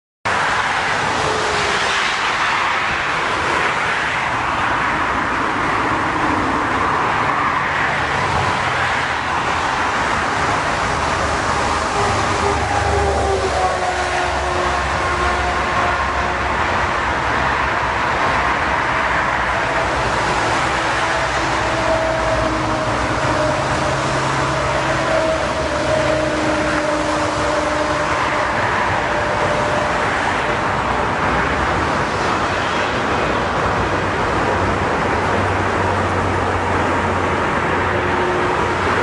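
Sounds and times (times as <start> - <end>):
jet airliner engines roaring: 0.3 - 39.0.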